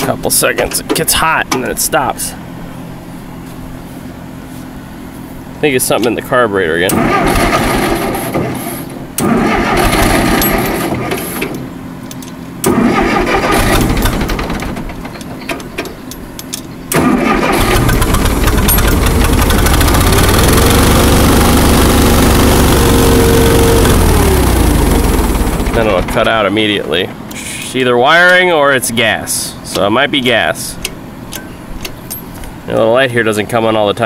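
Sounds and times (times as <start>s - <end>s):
tractor engine starting and running: 5.6s - 33.1s.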